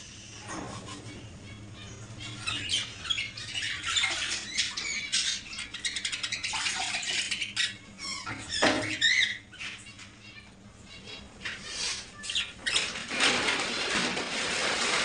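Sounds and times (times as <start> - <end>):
birds chirping and squawking: 0.2 - 15.0.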